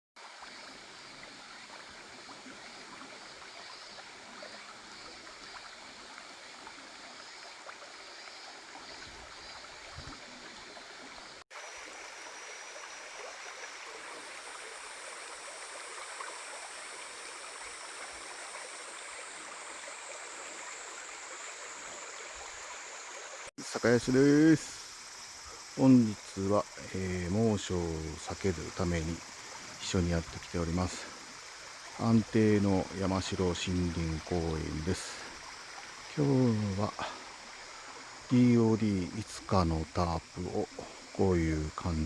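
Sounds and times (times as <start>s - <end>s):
stream flowing over rocks: 0.2s - 42.0s.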